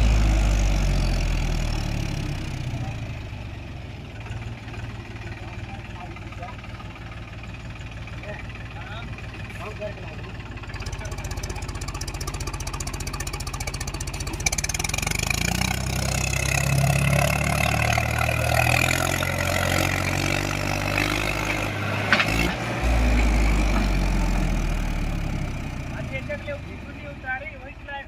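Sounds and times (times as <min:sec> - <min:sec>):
tractor diesel engine labouring: 0:00.0 - 0:28.0.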